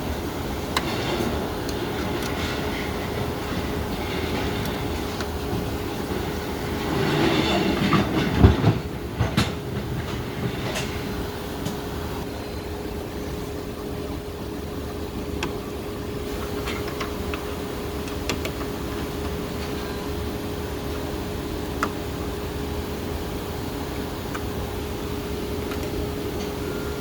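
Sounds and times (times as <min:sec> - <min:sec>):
fan-like machine hum: 0:00.0 - 0:27.0.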